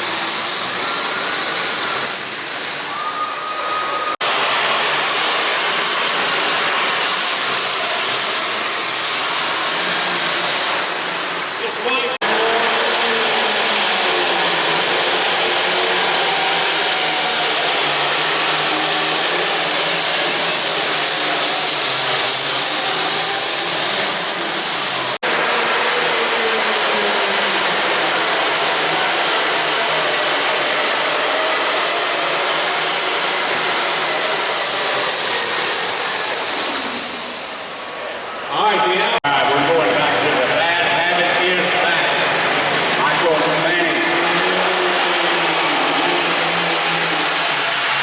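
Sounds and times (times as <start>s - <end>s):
engine running at full power: 0.0s - 48.0s.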